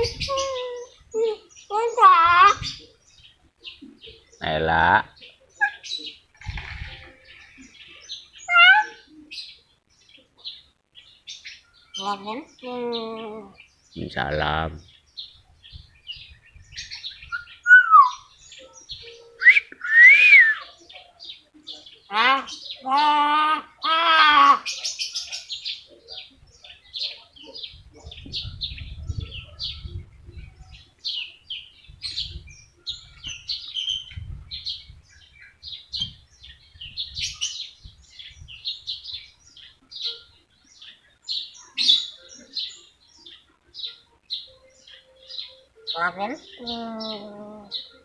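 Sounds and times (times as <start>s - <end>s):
bird chirping: 0.0s - 48.0s.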